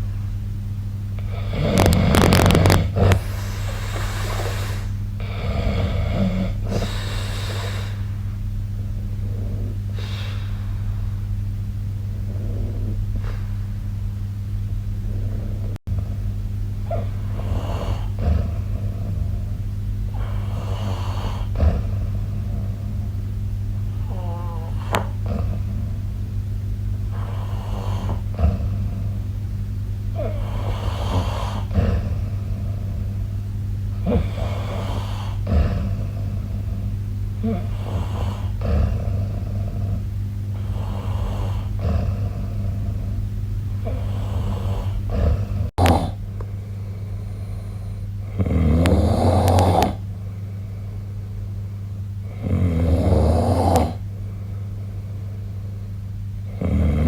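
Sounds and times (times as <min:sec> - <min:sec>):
steady low hum: 0:00.0 - 0:57.0
person snoring: 0:01.2 - 0:11.3, 0:12.1 - 0:14.0, 0:15.0 - 0:16.2, 0:16.8 - 0:29.4, 0:30.1 - 0:46.3, 0:46.9 - 0:50.1, 0:52.2 - 0:54.1, 0:56.4 - 0:57.0.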